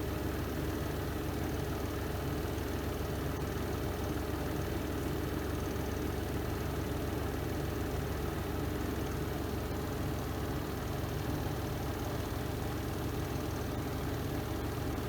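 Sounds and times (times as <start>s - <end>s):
motor hum and drum rumble: 0.0s - 15.0s
washing machine spin cycle: 0.0s - 15.0s.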